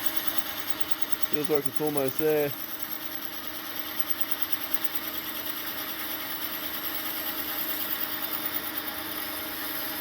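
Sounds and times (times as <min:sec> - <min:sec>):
metal lathe running: 0:00.0 - 0:10.0.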